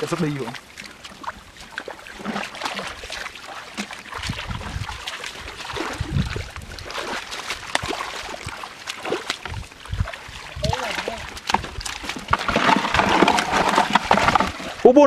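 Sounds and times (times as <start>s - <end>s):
feet sloshing in muddy water: 0.0s - 15.0s
splashes: 0.0s - 15.0s
feet thudding into mud: 0.6s - 14.8s.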